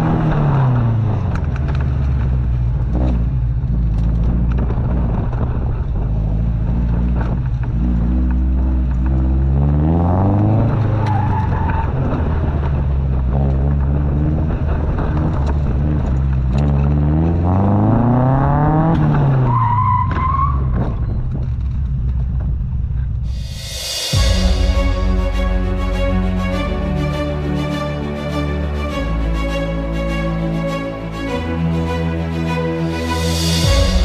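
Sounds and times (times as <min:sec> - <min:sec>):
sports car engine accelerating: 0:00.0 - 0:34.0.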